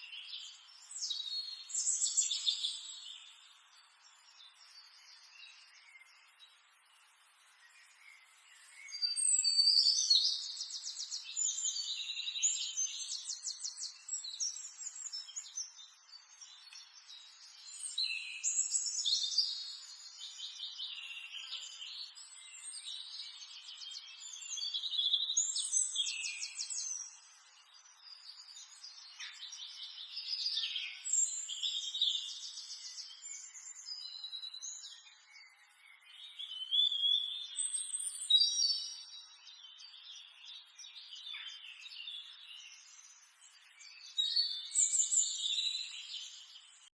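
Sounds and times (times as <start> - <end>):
songbirds trilling and chirping: 0.0 - 46.9.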